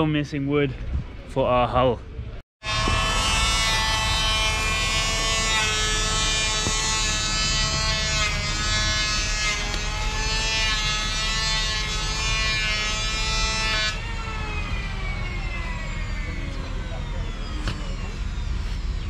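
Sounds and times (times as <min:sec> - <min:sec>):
electric motor buzzing whine: 0:02.6 - 0:19.0.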